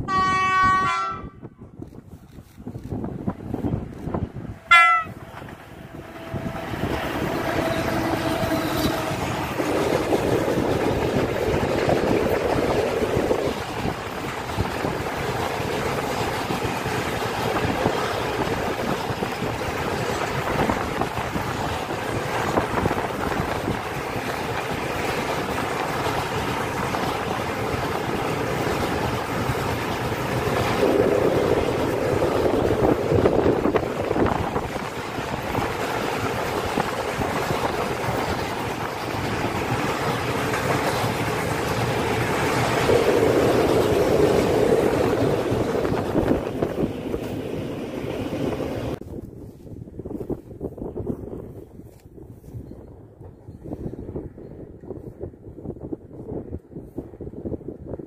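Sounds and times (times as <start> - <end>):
freight train wheels on rails: 0.0 - 58.0
wind on microphone: 0.0 - 58.0.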